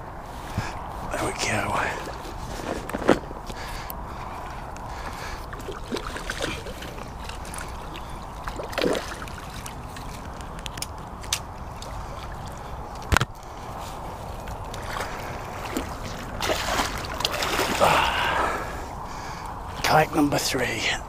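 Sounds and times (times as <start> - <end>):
steady low rumble: 0.0 - 21.0
water sloshing and splashing: 0.4 - 18.8.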